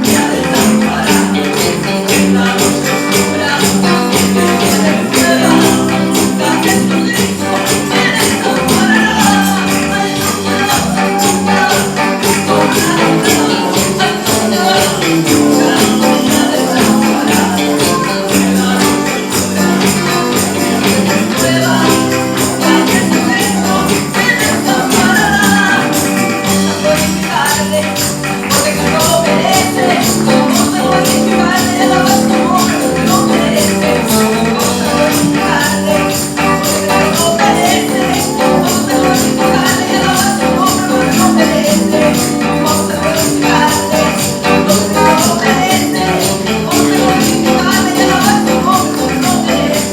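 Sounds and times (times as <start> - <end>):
worship music with steady beat: 0.0 - 27.2, 27.8 - 49.9.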